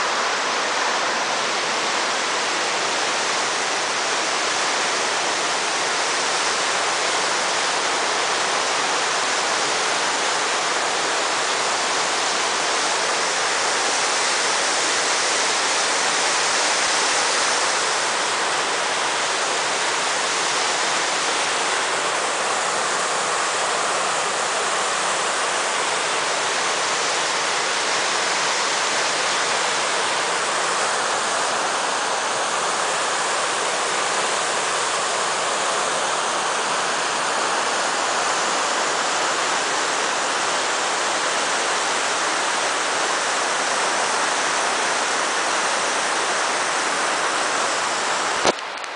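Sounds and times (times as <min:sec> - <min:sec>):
water rushing over rocks: 0:00.0 - 0:48.9.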